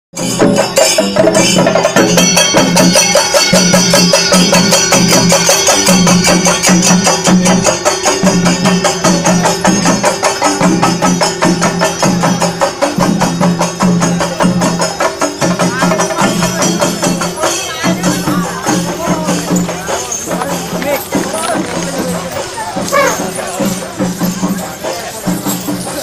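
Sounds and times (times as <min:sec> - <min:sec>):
drums beaten rapidly: 0:00.1 - 0:26.0
cymbals ringing: 0:00.2 - 0:26.0.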